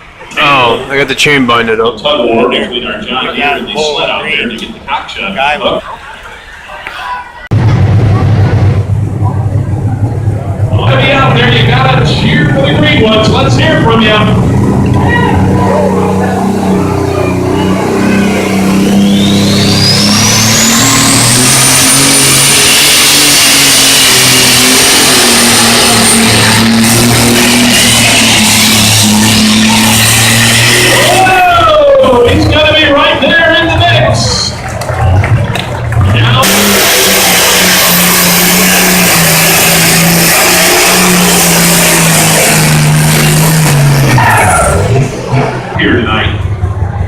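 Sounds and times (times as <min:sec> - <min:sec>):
tractor engine at full throttle: 0:07.5 - 0:47.0
turbocharger whine: 0:07.5 - 0:47.0.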